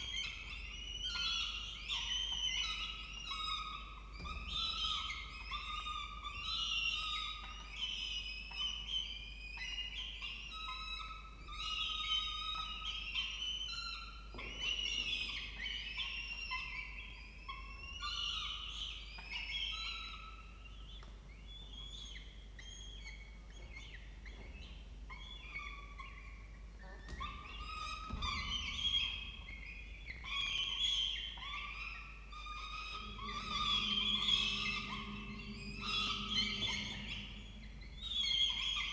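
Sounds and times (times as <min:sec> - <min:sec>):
falcon chicks begging calls: 0:00.0 - 0:20.7, 0:21.5 - 0:38.9.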